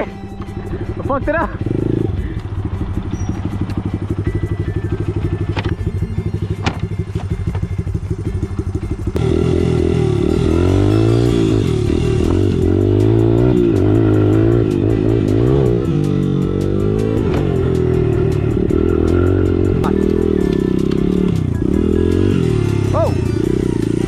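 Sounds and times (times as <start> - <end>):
dirt bike engine revving: 1.5 - 24.0.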